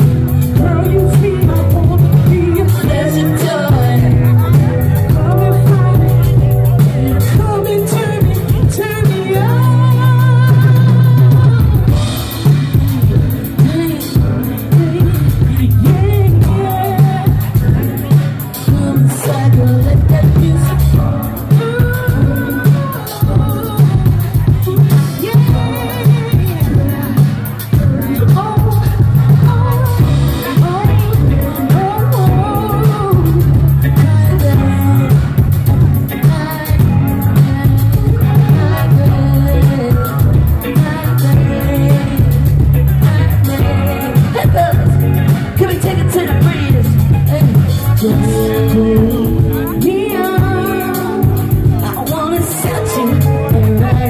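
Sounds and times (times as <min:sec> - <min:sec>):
drum kit: 0:00.0 - 0:54.0
electric guitar: 0:00.0 - 0:54.0
man singing: 0:00.0 - 0:54.0
soul band playing: 0:00.0 - 0:54.0.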